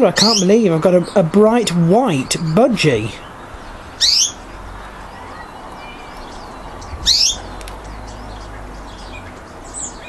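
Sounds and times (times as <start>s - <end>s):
birds chirping and twittering: 0.0s - 10.0s.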